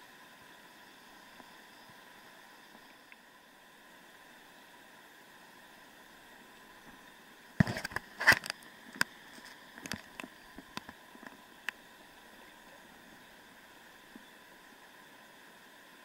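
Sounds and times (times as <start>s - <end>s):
running water hiss: 0.0s - 16.0s.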